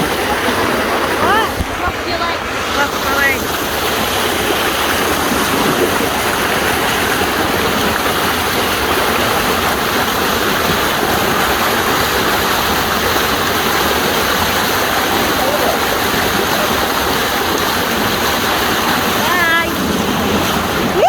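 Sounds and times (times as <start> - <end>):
flowing churning water: 0.0 - 21.0.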